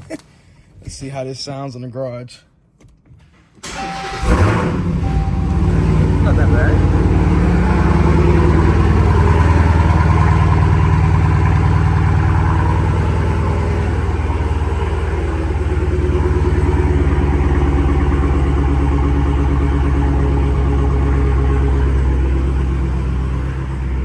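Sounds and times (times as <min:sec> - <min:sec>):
vee eight engine idling: 0:03.7 - 0:24.0.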